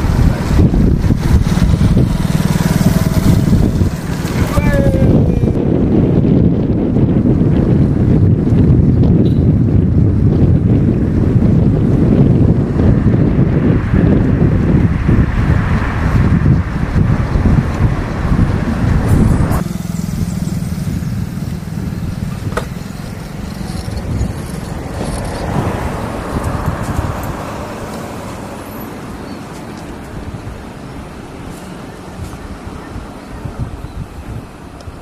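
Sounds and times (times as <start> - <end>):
vehicle engine hum: 0.0 - 35.0
vehicle road noise: 0.0 - 35.0
wind buffeting microphone: 0.0 - 35.0.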